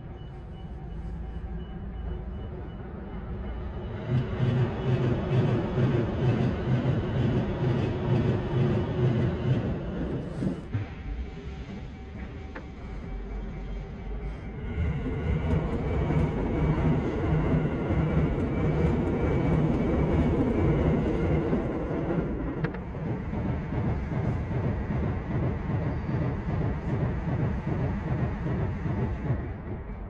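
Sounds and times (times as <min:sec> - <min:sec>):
electric train rumbling past: 0:00.0 - 0:30.0.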